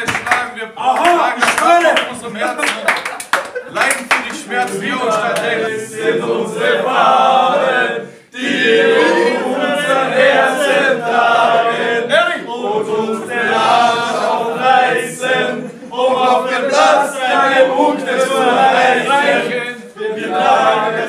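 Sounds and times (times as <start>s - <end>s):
group of men singing: 3.7s - 21.0s.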